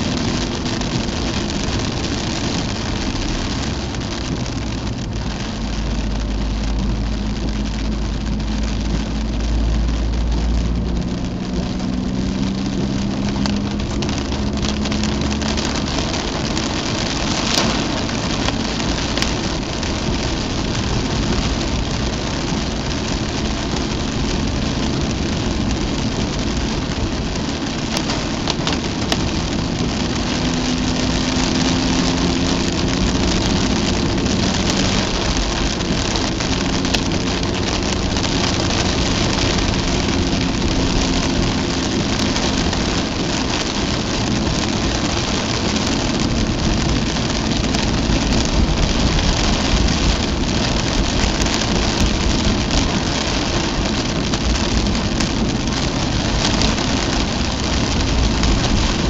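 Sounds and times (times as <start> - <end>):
car engine hum: 0.0 - 59.0
rain striking car: 0.0 - 59.0
tyres hissing on wet road: 0.0 - 59.0.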